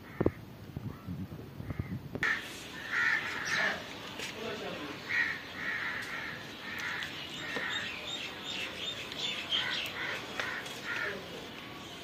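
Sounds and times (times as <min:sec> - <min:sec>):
birds calling: 0:01.6 - 0:12.0.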